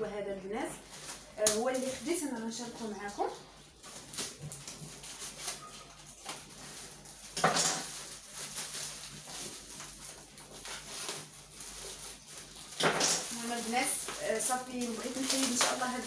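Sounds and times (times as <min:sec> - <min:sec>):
plastic wrapping crinkling: 0:00.5 - 0:16.0.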